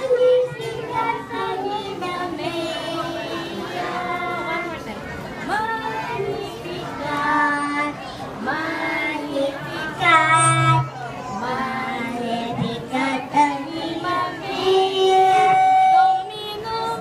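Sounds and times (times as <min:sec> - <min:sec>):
girl singing into microphone: 0:00.0 - 0:17.0
young children singing: 0:00.0 - 0:17.0.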